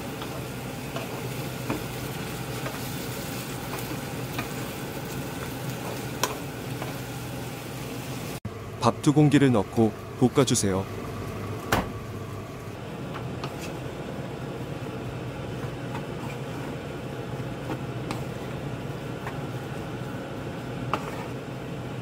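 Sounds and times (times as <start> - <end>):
background hum and hiss: 0.0 - 22.0.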